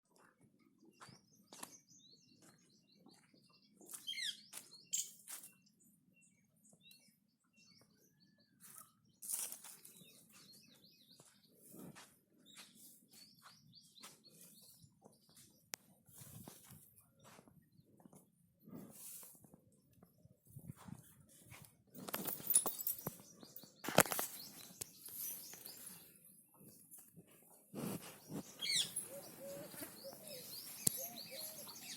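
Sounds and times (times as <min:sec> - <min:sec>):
small birds chirping: 0:00.1 - 0:21.2, 0:22.0 - 0:31.9.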